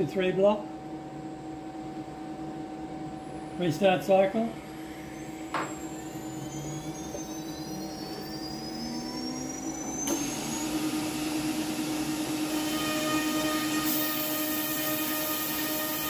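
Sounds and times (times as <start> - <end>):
router spindle whine: 2.2 - 16.0.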